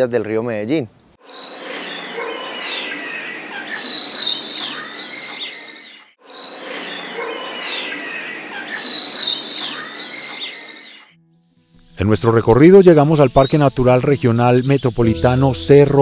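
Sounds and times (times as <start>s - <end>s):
songbirds chirping and whistling: 1.0s - 11.2s, 12.9s - 16.0s.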